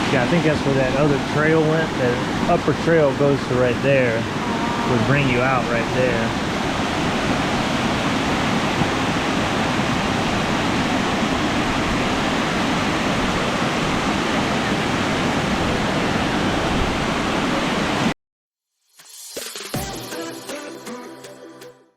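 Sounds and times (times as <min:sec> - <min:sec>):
waterfall rushing: 0:00.0 - 0:18.1.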